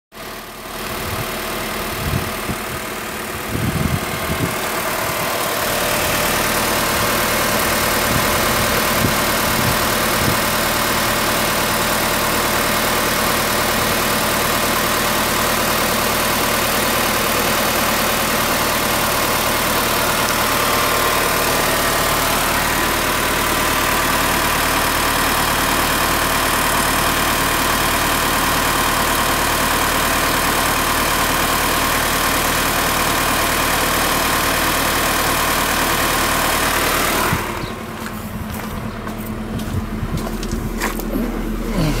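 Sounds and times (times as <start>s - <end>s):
car engine idling: 0.1s - 42.0s.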